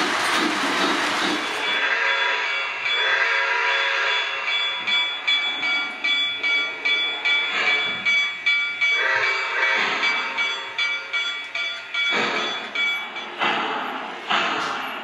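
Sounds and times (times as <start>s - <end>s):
model steam locomotive chuffing: 0.0s - 15.0s
steady high tones: 1.6s - 15.0s.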